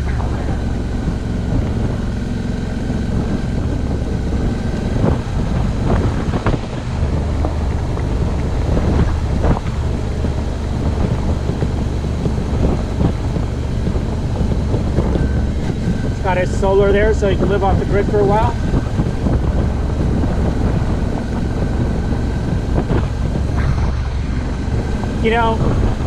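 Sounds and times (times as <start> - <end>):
knocks and rattles over bumps: 0.0 - 26.0
motorcycle engine cruising: 0.0 - 26.0
wind noise on microphone: 0.0 - 26.0.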